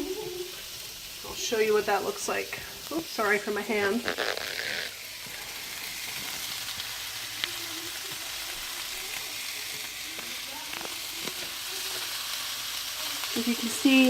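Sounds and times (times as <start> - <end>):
vegetables sizzling in a wok: 0.0 - 14.0.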